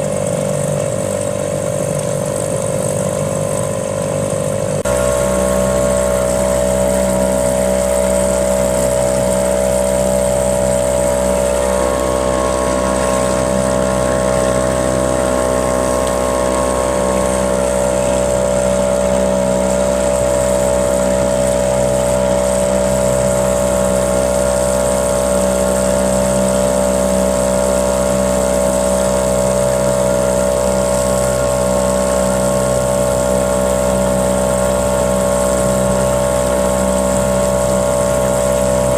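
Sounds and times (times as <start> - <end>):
small boat motor running: 0.0 - 38.9.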